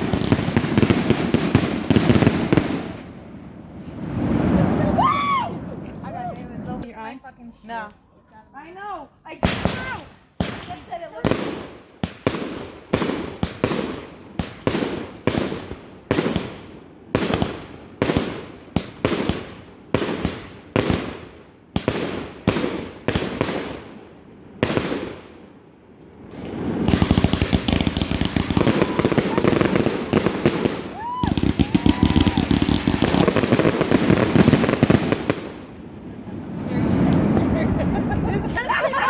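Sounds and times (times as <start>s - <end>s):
fireworks banging and crackling: 0.0s - 39.0s.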